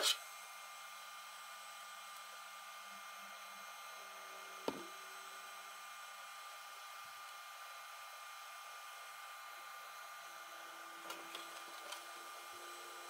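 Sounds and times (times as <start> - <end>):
fans whirring: 0.0 - 13.0.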